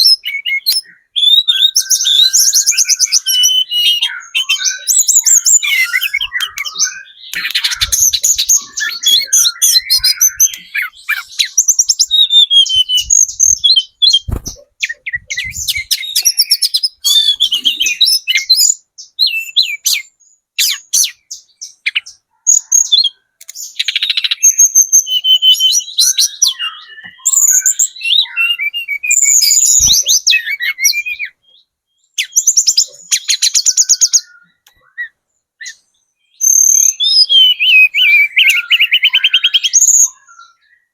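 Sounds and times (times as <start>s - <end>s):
bird singing rapid chirps and trills: 0.0s - 40.9s.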